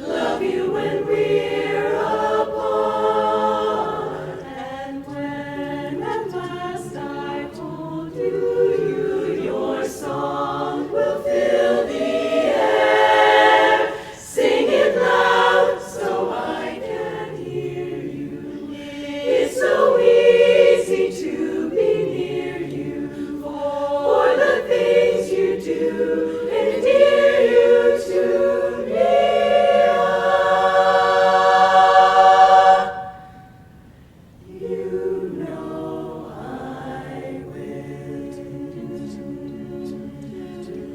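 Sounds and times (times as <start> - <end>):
women's chorus singing a cappella: 0.0 - 33.7, 34.4 - 40.9.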